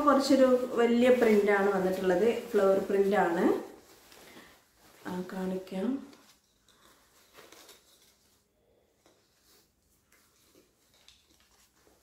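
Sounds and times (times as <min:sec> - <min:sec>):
rustling of fabric and plastic: 0:00.0 - 0:12.0.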